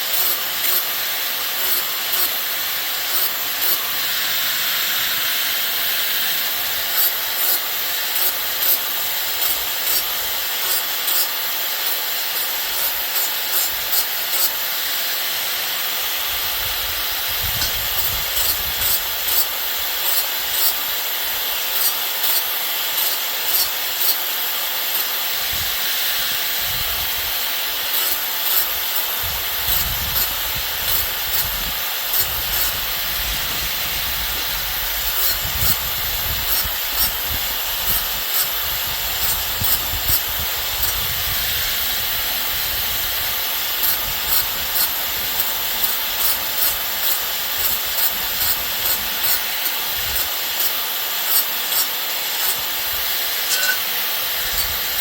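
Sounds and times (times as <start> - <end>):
hand tool strokes on wood: 0.0 - 15.3, 16.3 - 20.9, 21.5 - 55.0
steady hiss: 0.0 - 55.0.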